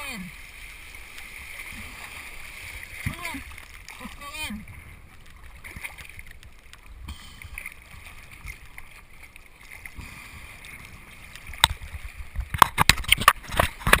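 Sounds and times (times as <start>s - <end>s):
water sloshing: 0.0s - 14.0s.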